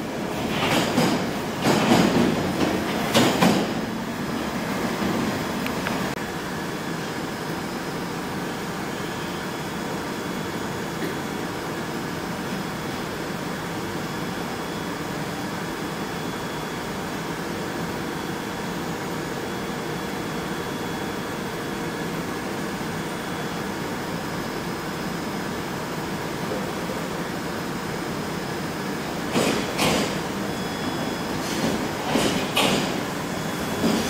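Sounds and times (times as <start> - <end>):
high steady whines: 0.0 - 34.0
stationary train equipment hum: 0.0 - 34.0.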